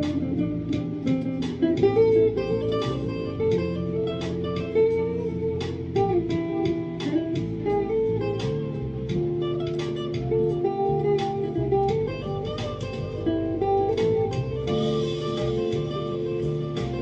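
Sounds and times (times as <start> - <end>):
electric guitar picked melody: 0.0 - 17.0.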